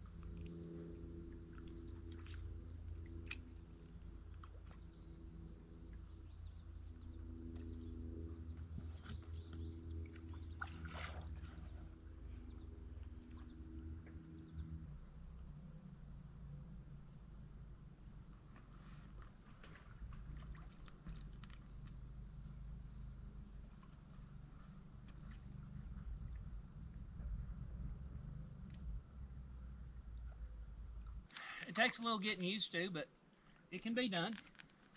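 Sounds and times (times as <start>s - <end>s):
low tonal hum: 0.0s - 31.3s
faint scattered ticks: 0.0s - 34.9s
high-pitched insect chorus: 0.0s - 34.9s.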